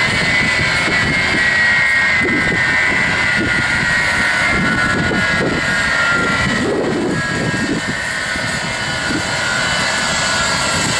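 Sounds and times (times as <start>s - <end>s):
jet engines running loudly: 0.0s - 10.9s.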